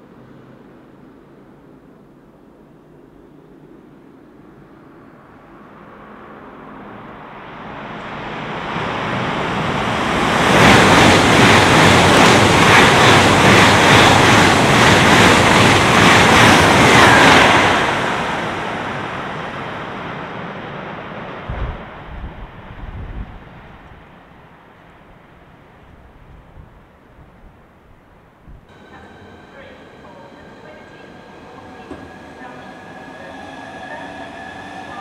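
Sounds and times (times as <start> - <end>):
high-speed train passing: 0.0 - 35.0.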